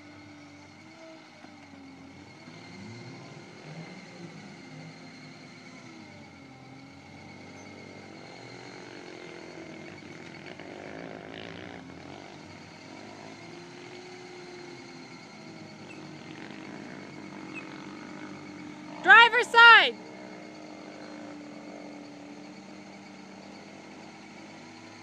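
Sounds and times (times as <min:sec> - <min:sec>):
four-cylinder engine running at low revs: 0:00.0 - 0:25.0.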